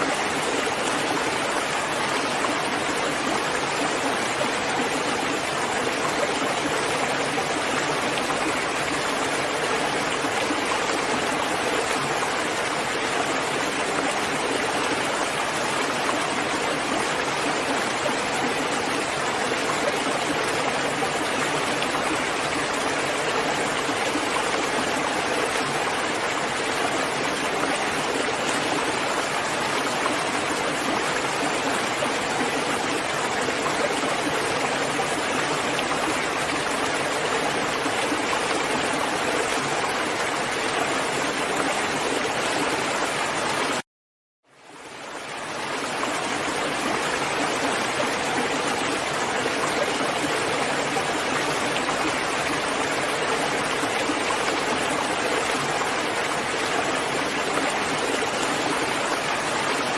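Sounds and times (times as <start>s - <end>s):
dense rainfall: 0.0s - 43.8s, 44.6s - 59.9s.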